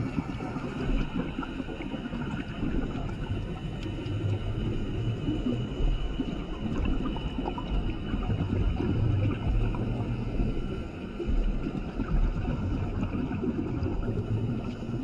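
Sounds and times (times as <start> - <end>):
ocean noise underwater: 0.0 - 15.0.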